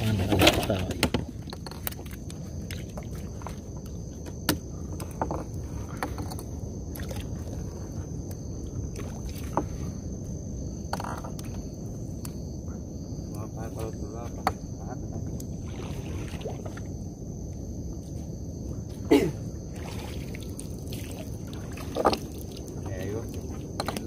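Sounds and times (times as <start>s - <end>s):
faint high whine: 0.0s - 24.0s
low rumble of water and wind: 0.0s - 24.0s.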